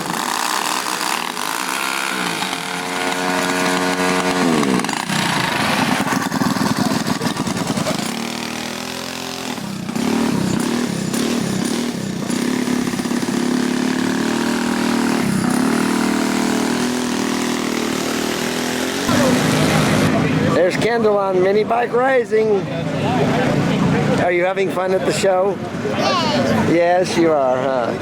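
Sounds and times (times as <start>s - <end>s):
minibike engines revving: 0.0s - 28.0s.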